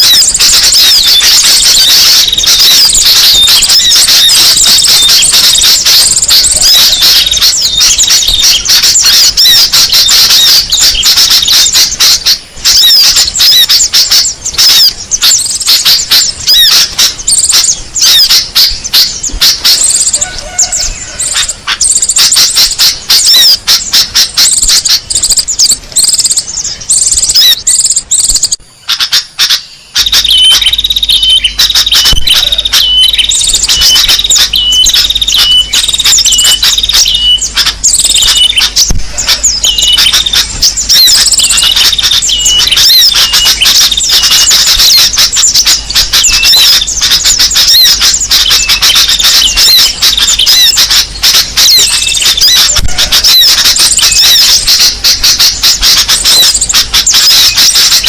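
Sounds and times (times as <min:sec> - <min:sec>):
high ringing bird call: 0:00.0 - 0:58.0
songbirds chirping and twittering: 0:00.0 - 0:58.0.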